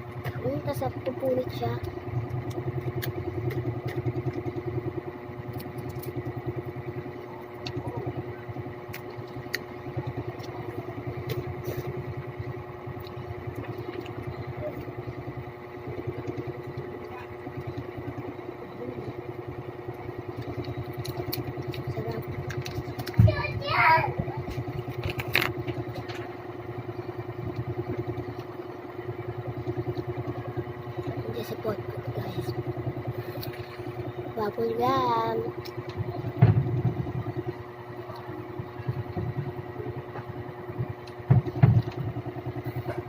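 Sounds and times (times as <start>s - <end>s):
small motor droning: 0.0s - 43.0s.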